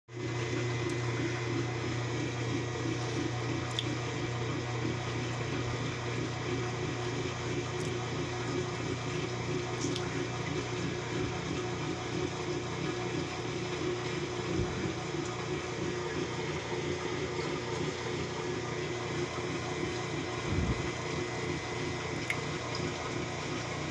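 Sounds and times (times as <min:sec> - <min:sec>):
washing machine running: 0:00.1 - 0:23.9
water rushing in tub: 0:00.1 - 0:23.9.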